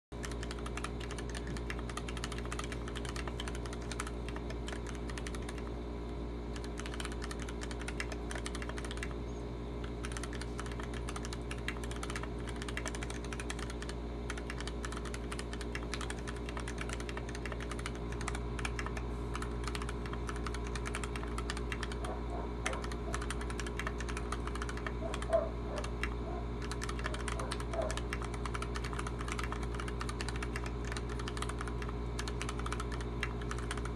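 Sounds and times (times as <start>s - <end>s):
mechanical keyboard typing: 0.2s - 5.7s, 6.5s - 9.2s, 9.8s - 33.9s
steady low hum: 0.2s - 33.9s.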